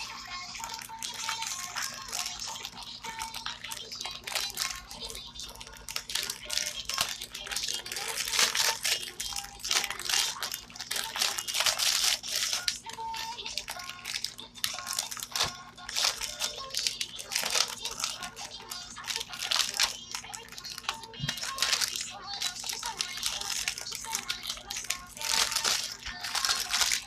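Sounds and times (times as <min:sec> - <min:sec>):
candy wrappers crinkling: 0:00.0 - 0:27.0.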